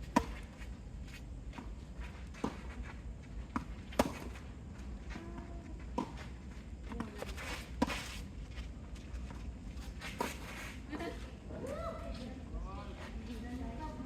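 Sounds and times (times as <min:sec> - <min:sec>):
footsteps on a court: 0:00.0 - 0:14.0.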